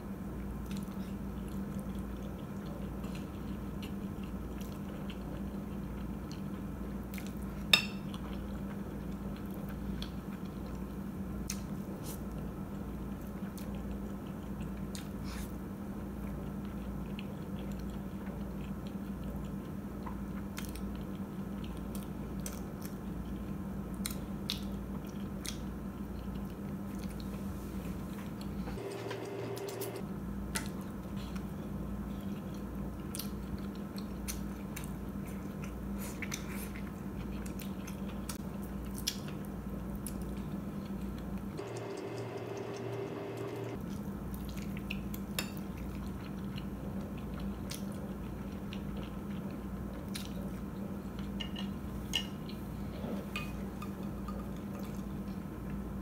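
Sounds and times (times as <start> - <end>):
steady low hum: 0.0 - 56.0
chewing and biting food: 0.6 - 56.0.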